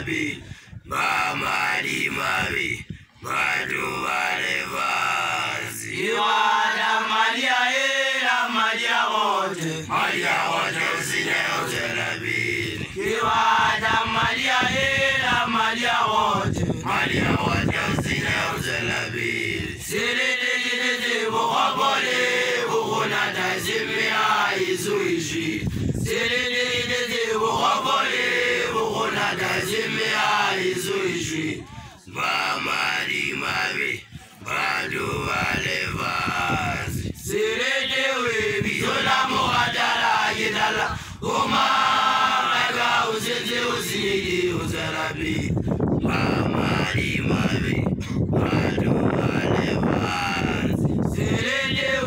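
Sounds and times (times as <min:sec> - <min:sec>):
young men chanting a song: 0:00.0 - 0:52.0.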